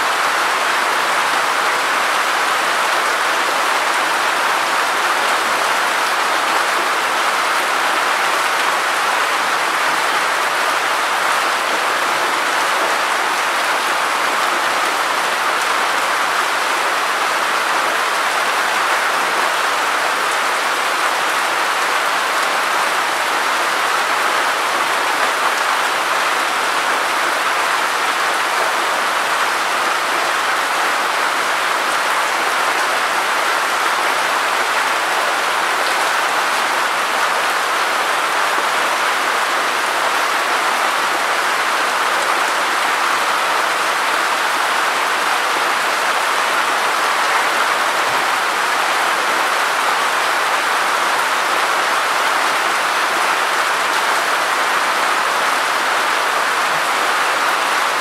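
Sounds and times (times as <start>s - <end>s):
steady rain on wet ground: 0.0s - 58.0s.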